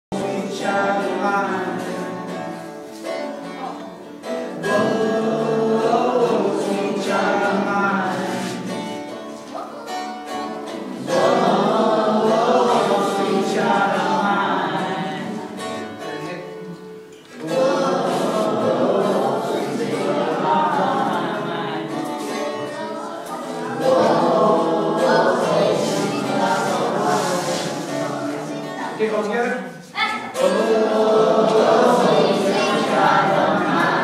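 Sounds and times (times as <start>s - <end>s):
voices singing together: 0.1s - 34.0s.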